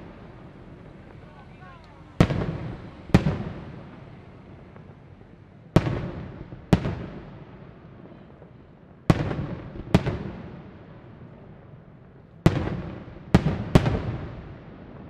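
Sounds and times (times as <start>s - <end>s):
fireworks bangs echoing: 0.0s - 15.0s.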